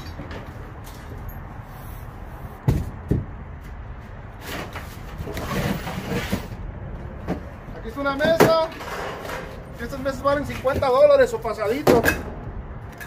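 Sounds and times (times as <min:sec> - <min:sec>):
rustling and scraping: 0:00.0 - 0:11.1.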